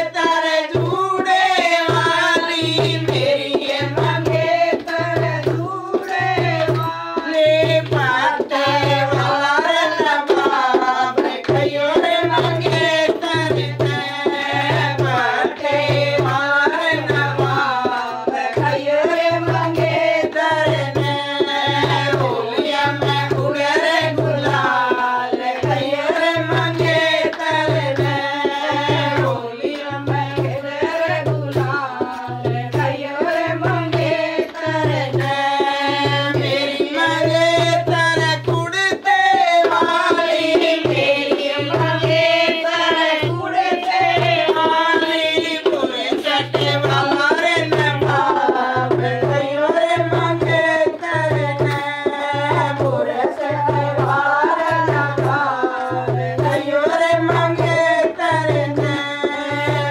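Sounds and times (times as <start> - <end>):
hand drum beat: 0.0 - 59.9
women singing folk song: 0.0 - 59.9.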